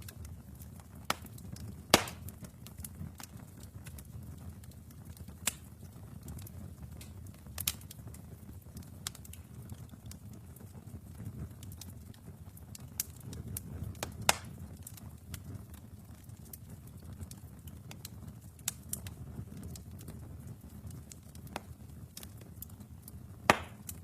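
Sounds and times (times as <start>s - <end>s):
fire pops: 0.0s - 24.0s
wood fire crackling: 0.0s - 24.0s.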